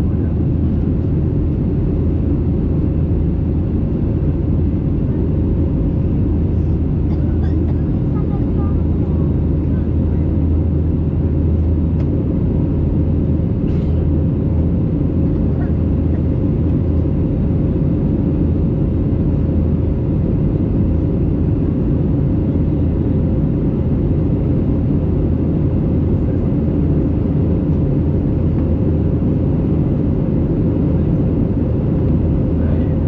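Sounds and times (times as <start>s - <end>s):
jet engines low rumble: 0.0s - 33.0s.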